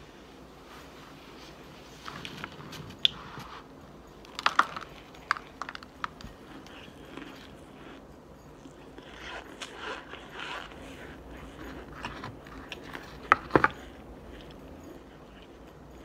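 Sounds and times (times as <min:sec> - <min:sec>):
chewing and crunching: 0:01.8 - 0:16.0.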